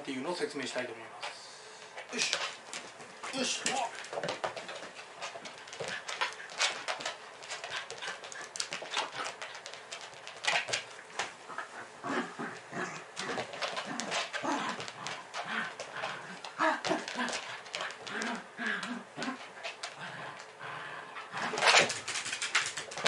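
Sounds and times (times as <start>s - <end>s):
dog growling and snapping: 3.5s - 23.0s.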